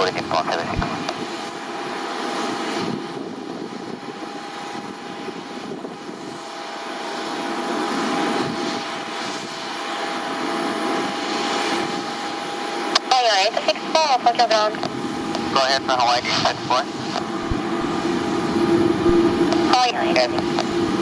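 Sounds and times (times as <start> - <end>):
high jet engine whine: 0.0 - 21.0
jet engines rushing: 0.0 - 21.0.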